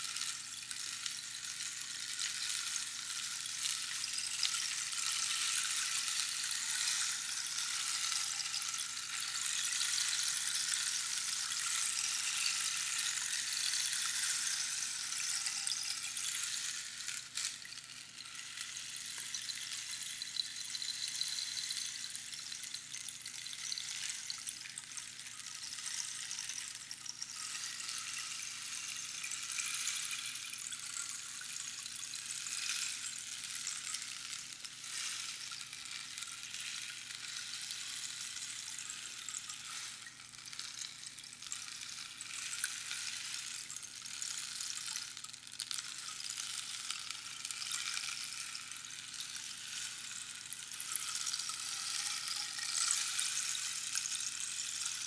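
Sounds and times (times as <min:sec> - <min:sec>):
rainstick pebbles trickling: 0:00.0 - 0:55.0.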